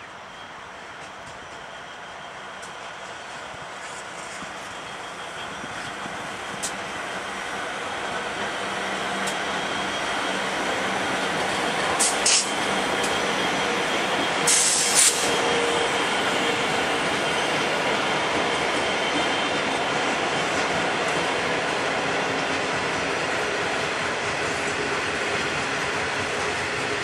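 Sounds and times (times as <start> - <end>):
diesel locomotive engine drone: 0.0 - 27.0
rumble of wheels on rail: 0.0 - 27.0.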